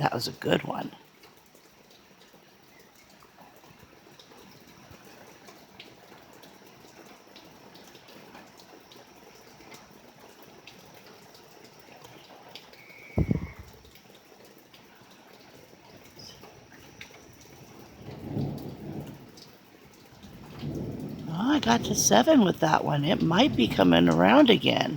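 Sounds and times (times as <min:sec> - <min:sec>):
drips ticking: 0:00.0 - 0:24.9
steady rain: 0:00.0 - 0:24.9.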